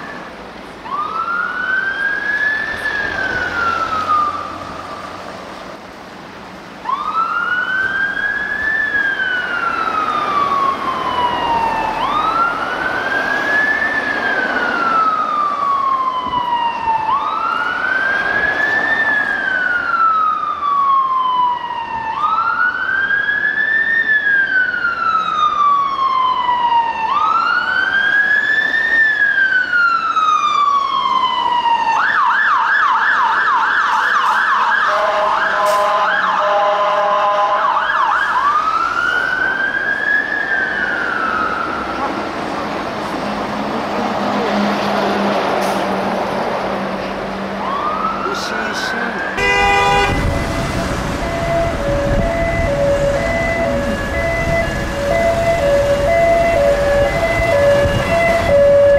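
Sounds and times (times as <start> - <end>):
fire engine siren wailing: 0.0 - 5.9, 6.6 - 58.9
siren rapid yelp: 0.9 - 4.8, 6.8 - 42.0, 47.6 - 58.9.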